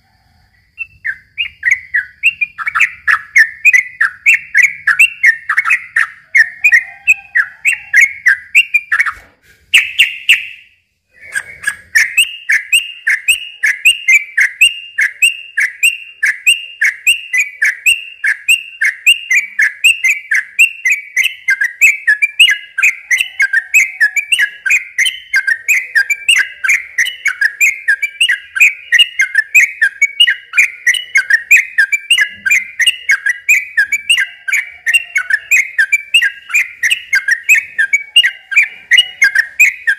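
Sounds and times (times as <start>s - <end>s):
bird chirping rapidly: 0.6s - 39.9s.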